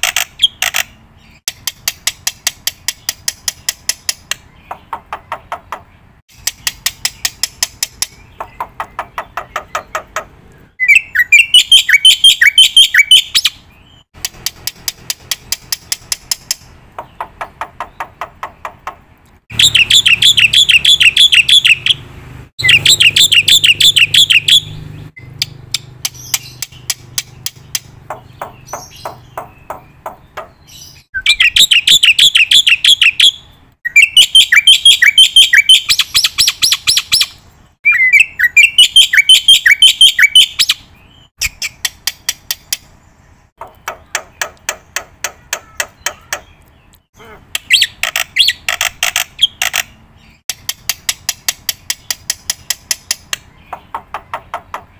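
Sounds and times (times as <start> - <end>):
bird chirping in trills: 0.0 - 54.9.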